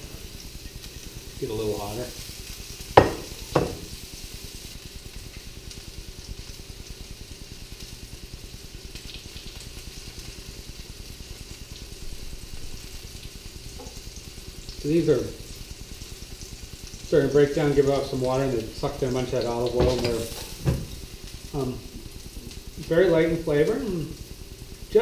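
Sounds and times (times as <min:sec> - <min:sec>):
mushrooms sizzling in a pan: 0:00.0 - 0:25.0.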